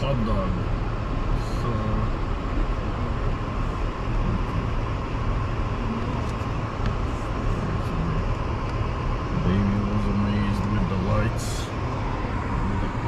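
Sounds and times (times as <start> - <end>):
car road noise from inside: 0.0 - 13.0.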